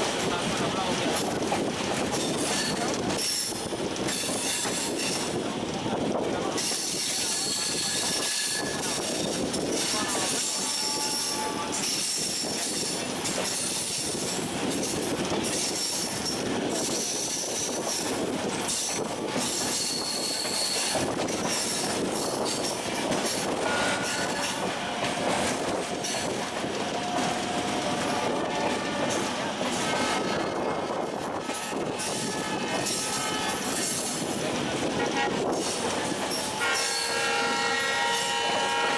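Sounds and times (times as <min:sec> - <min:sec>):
train rolling on rails: 0:00.0 - 0:38.9.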